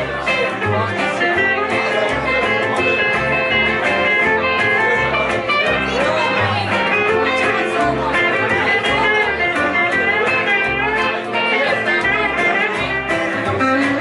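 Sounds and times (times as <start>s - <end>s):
country band playing: 0.0s - 14.0s
upright bass plucking: 0.0s - 14.0s.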